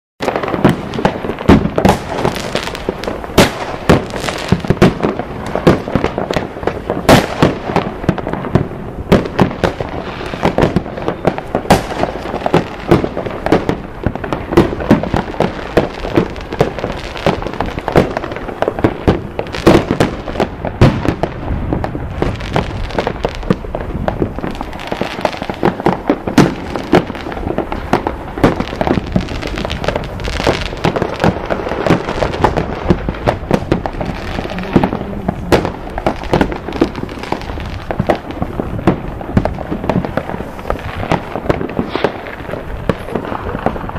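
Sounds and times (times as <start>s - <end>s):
fireworks and firecrackers banging: 0.2s - 43.9s.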